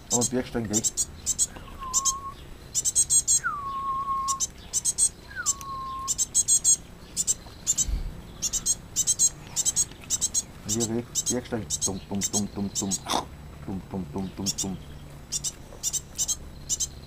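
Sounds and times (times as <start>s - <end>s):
blue tit chirping: 0.0s - 13.4s, 14.0s - 17.0s.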